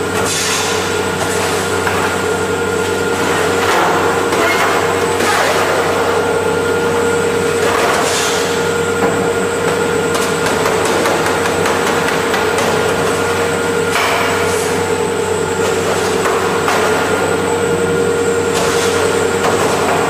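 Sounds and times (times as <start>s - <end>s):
machinery whine and hum: 0.0s - 20.0s.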